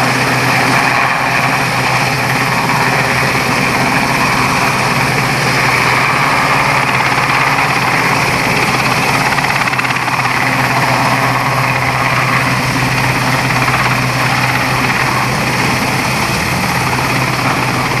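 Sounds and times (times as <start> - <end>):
helicopter hovering: 0.0 - 18.0.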